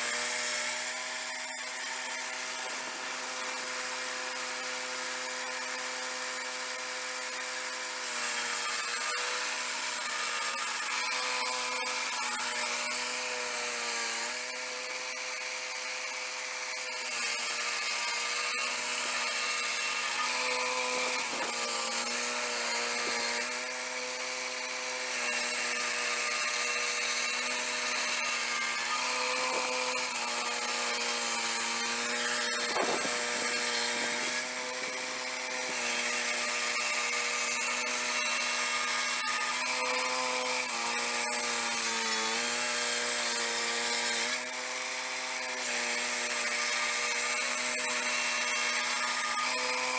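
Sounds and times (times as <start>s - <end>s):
circular blade sawing a log: 0.0s - 49.9s
sawmill engine running: 0.0s - 49.9s.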